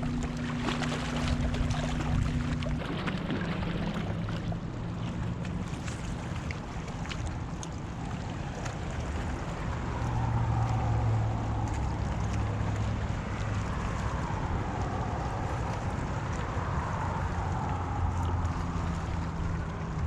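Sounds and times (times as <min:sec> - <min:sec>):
boat engine hum: 0:00.0 - 0:20.0
water noise: 0:00.0 - 0:20.0
wind: 0:00.0 - 0:20.0.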